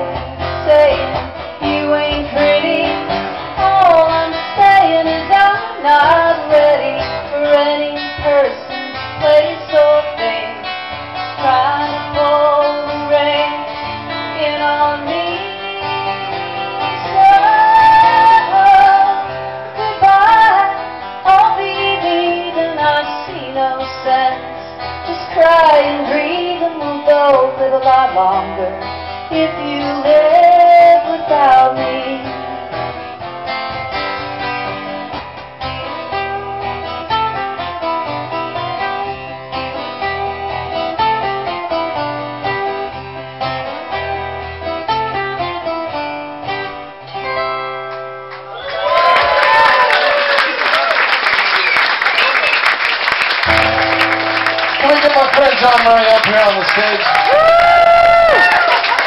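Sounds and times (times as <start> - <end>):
acoustic guitars strumming: 0.0 - 48.6, 52.7 - 57.1.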